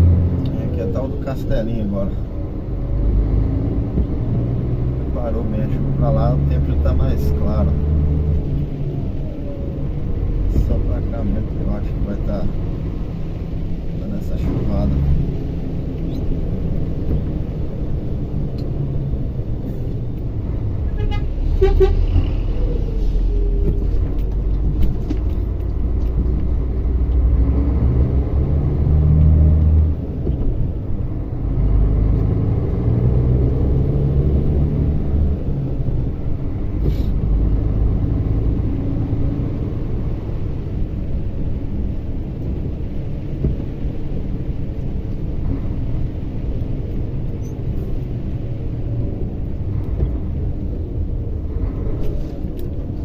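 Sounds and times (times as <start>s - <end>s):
truck diesel engine rumbling: 0.0s - 53.0s.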